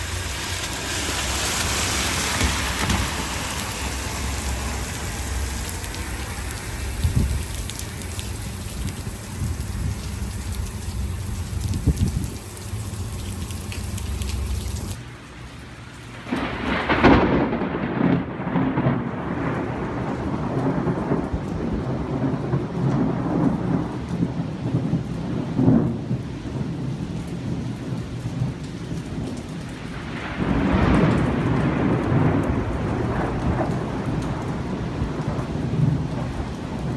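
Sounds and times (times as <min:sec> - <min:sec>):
thunder rumbling: 0:00.0 - 0:15.0, 0:16.1 - 0:36.9
steady rain: 0:00.0 - 0:36.9.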